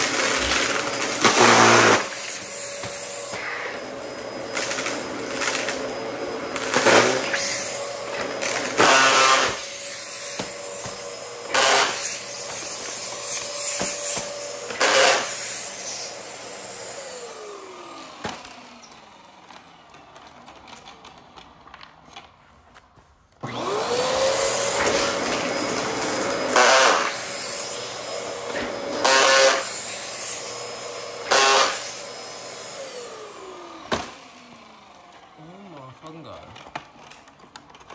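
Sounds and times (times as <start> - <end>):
vacuum cleaner motor whining: 0.0 - 37.9.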